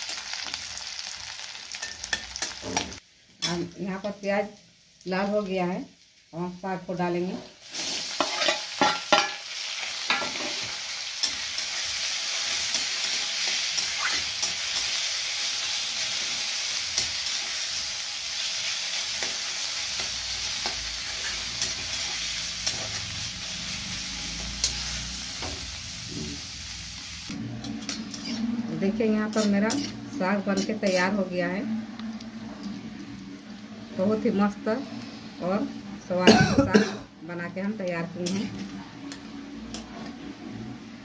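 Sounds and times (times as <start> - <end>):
greens sizzling in oil: 0.0 - 36.2, 37.3 - 40.6.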